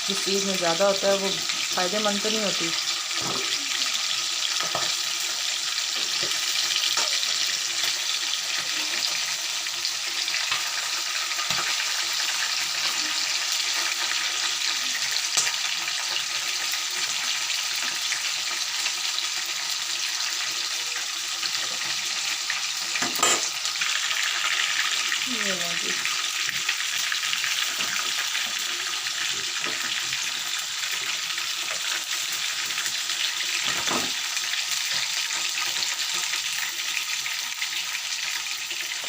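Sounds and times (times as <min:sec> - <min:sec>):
chicken frying in hot oil: 0:00.0 - 0:39.0.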